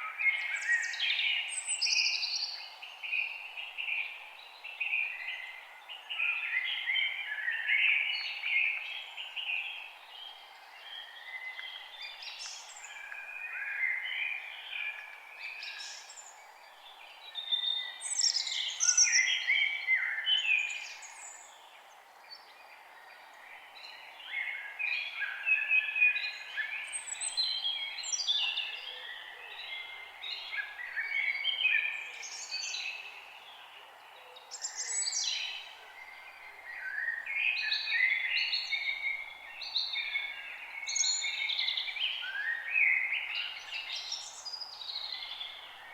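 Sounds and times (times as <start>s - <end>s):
faint steady hiss: 0.0s - 45.9s
songbirds singing and chirping: 0.0s - 45.9s.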